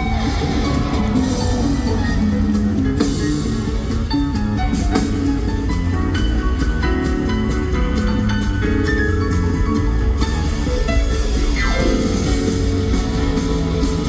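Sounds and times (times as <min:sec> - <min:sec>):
driving bass line: 0:00.0 - 0:14.0
live funk-rock band: 0:00.0 - 0:14.0.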